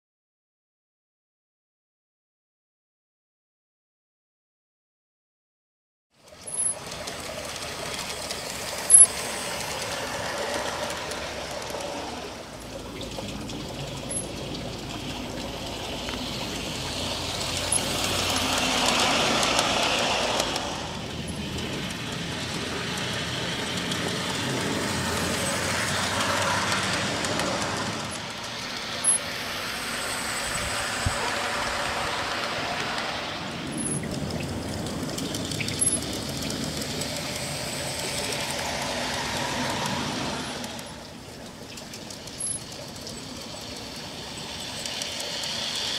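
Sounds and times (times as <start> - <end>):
model train wheels rumbling: 6.2 - 45.9.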